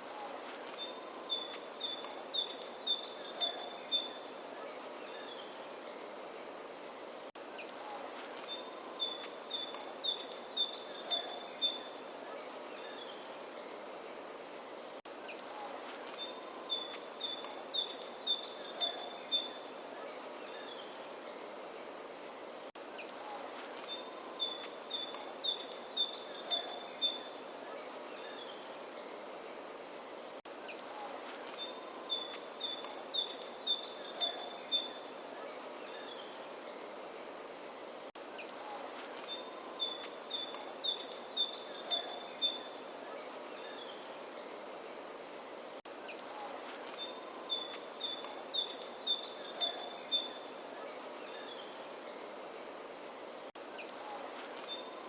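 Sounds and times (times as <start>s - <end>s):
faint outdoor hiss: 0.0s - 55.0s
songbird singing: 0.0s - 55.0s.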